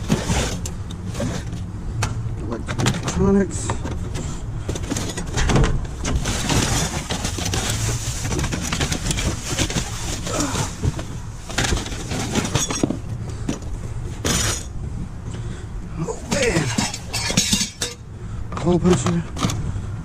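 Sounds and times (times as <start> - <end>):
objects rustling and clattering: 0.0 - 14.8, 15.4 - 19.8.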